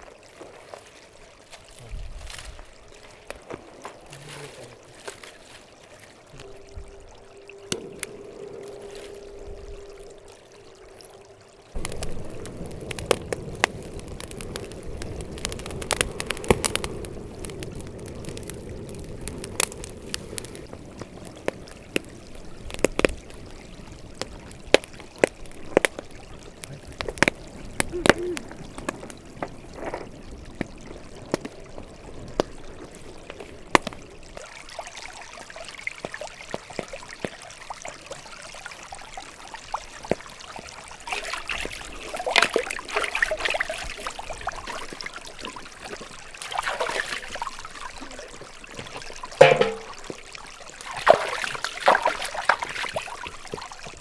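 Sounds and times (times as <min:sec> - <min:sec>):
fire crackling and popping: 0:00.0 - 0:54.0
stream trickling: 0:00.0 - 0:54.0
water splashing: 0:00.0 - 0:54.0.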